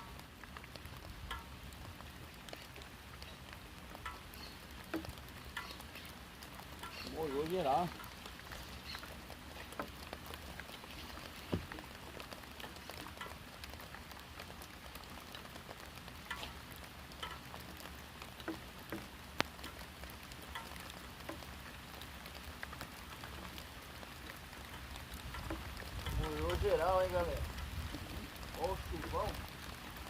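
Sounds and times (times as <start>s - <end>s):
heavy rain pouring: 0.0s - 30.0s
raindrops ticking on surfaces: 0.0s - 30.0s.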